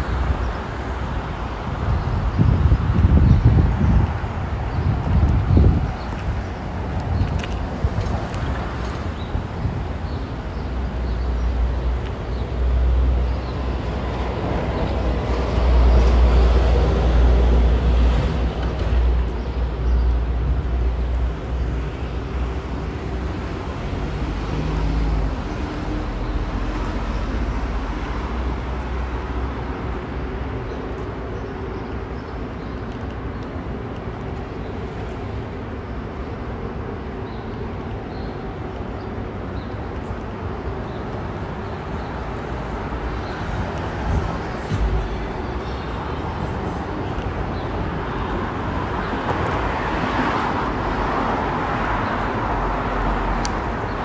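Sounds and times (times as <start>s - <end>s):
passing vehicles rumbling: 0.0s - 54.0s.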